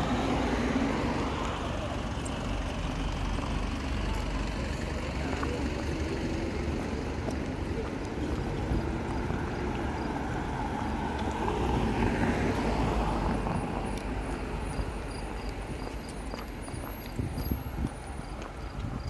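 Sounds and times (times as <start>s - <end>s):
low traffic rumble: 0.0s - 19.0s
vehicle passing close by: 0.0s - 19.0s.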